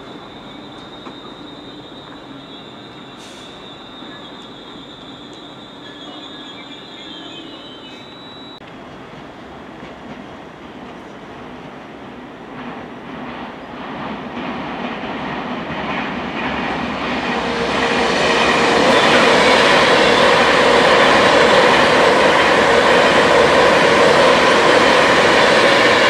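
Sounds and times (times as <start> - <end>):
train running by: 0.0 - 26.0.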